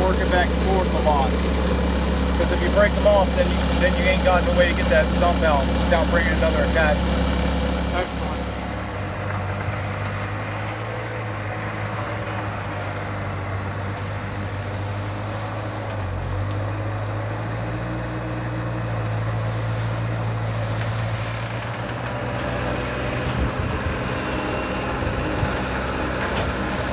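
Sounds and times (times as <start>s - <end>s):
skid steer engine running: 0.0s - 26.9s.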